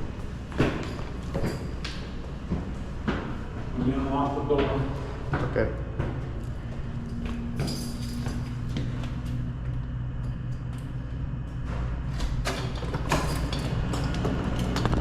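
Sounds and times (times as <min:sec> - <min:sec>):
elevator machinery humming: 0:00.0 - 0:15.0.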